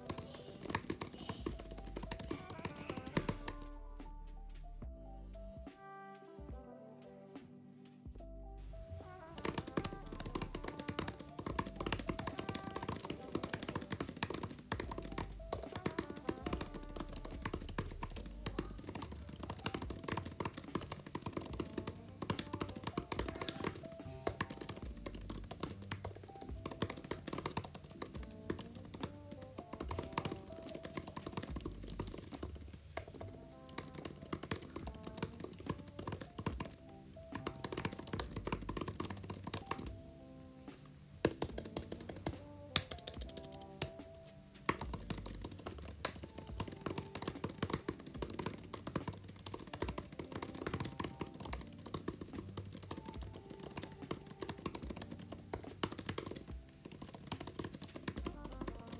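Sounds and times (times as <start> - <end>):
fast typing on keyboard: 0.0 - 3.7, 8.8 - 40.0, 41.2 - 58.9
background music: 0.0 - 58.9.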